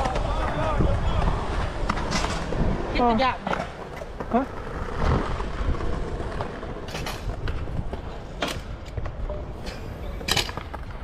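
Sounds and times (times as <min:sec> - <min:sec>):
scooter wheels rolling on concrete: 0:00.0 - 0:11.0.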